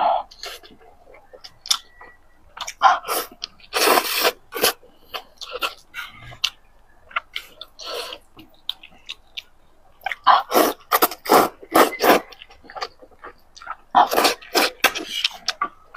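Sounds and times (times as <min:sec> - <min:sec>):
noisy bursts: 0:00.0 - 0:15.9
person chewing food: 0:00.0 - 0:15.9.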